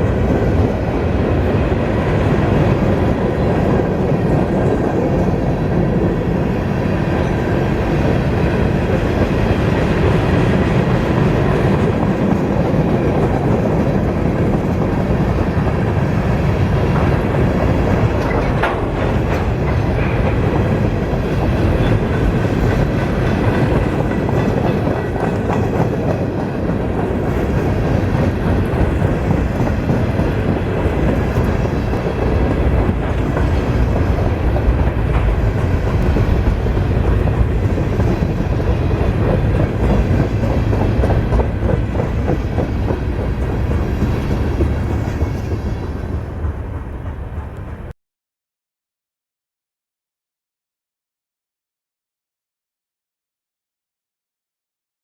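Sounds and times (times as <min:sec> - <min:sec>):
train wheels clickety-clack: 0:00.0 - 0:48.0.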